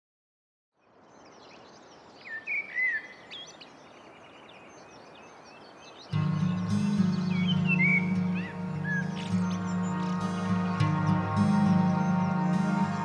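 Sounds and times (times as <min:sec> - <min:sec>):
birds chirping and calling: 0:02.2 - 0:13.0.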